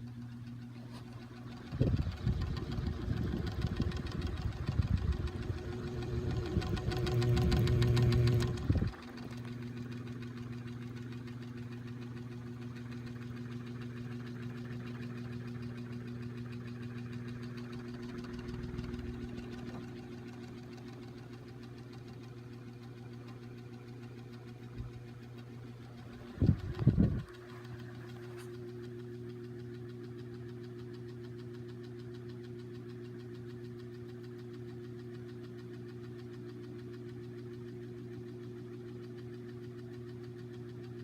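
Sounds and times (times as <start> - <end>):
fan motor hum: 0.0 - 41.0.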